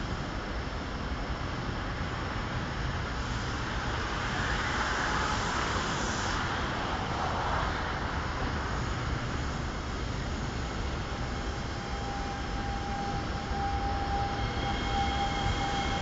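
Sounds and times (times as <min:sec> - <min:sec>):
distant train rumble and hiss: 0:00.0 - 0:16.0.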